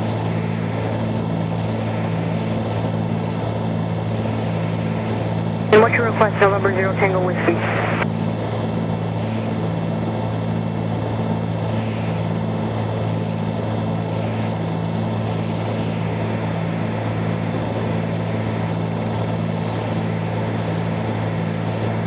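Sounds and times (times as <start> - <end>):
airplane engines droning in cabin: 0.0 - 22.0.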